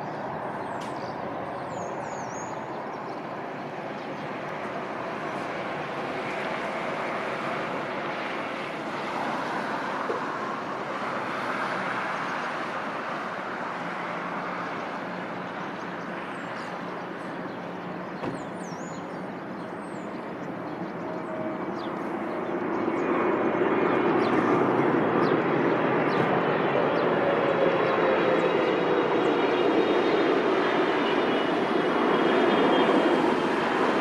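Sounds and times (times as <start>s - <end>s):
jet engine rush: 0.0s - 34.0s.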